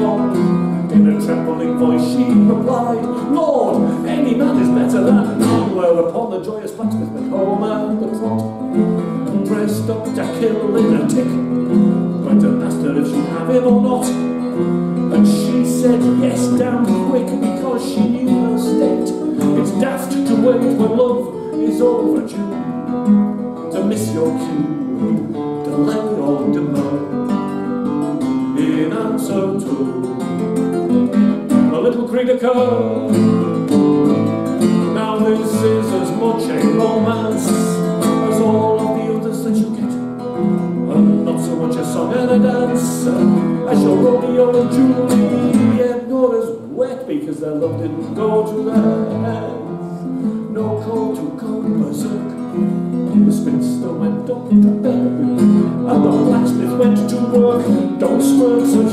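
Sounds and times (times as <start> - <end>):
classical guitar plucking and strumming: 0.0 - 58.9
man singing: 0.0 - 58.9.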